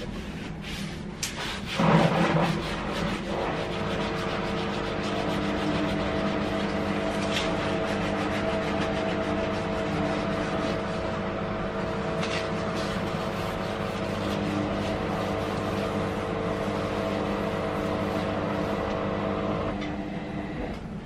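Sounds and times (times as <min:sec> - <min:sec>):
sponge wiping countertop: 0:00.0 - 0:19.7
appliance machine hum: 0:00.0 - 0:21.0.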